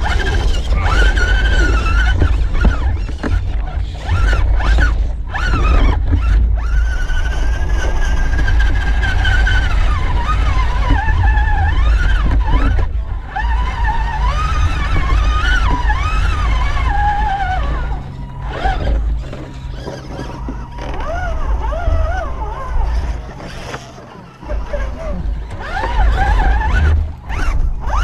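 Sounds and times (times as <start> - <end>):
electric motor and gear whine: 0.0 - 28.0
heavy low rumble: 0.0 - 28.0.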